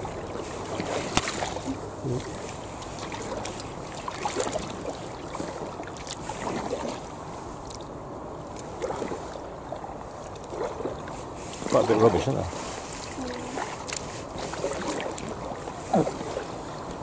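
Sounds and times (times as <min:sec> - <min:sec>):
paddle splashing in water: 0:00.0 - 0:17.0.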